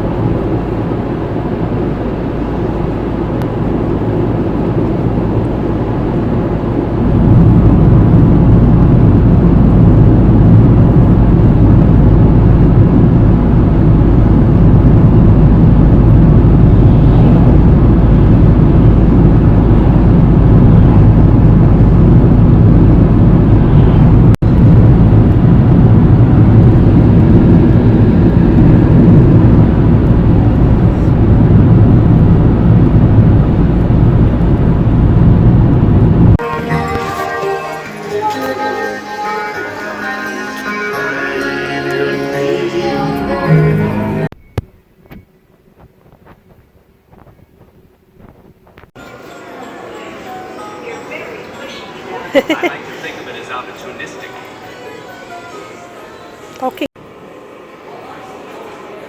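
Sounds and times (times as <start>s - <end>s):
car driving rumble: 0.0s - 49.0s.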